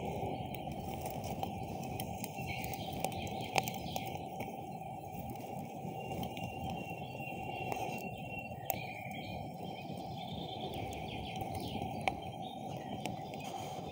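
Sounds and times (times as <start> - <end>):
birds chirping: 0.0 - 13.9
burning wood popping: 0.0 - 13.9
campfire burning: 0.0 - 13.9.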